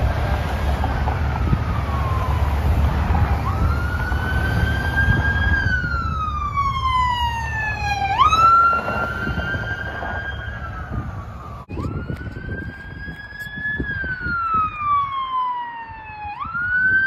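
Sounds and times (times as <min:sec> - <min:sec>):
passing road traffic rumble: 0:00.0 - 0:17.0
police siren wailing: 0:00.0 - 0:17.0.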